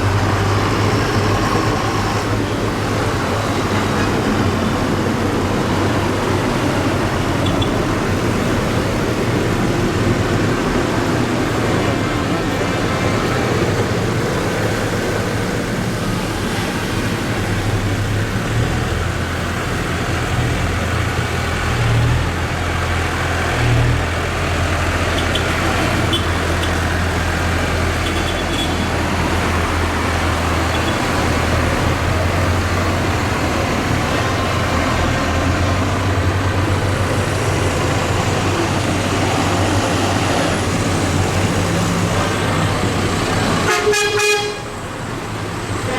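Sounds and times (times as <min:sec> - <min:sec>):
diesel tractor engines droning: 0:00.0 - 0:45.9.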